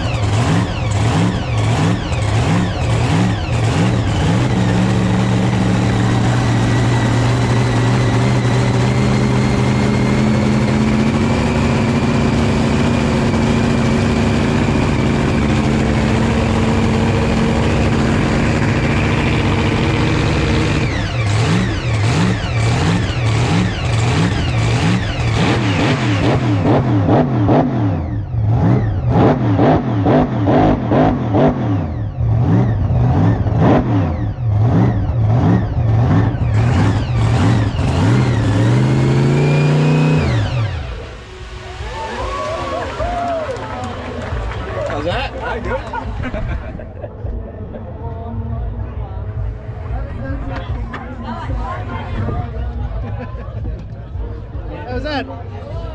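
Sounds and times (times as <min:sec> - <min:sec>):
car engine revving: 0:00.0 - 0:52.3.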